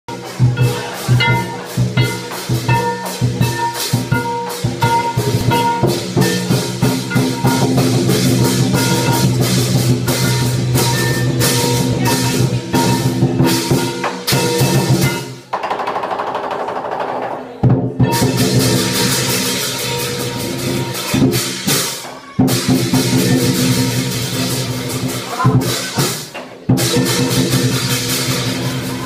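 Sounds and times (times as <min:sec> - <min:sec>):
cymbals crashing: 0:00.1 - 0:15.5, 0:17.9 - 0:29.0
large drum beaten rapidly: 0:00.1 - 0:17.0, 0:17.6 - 0:29.0.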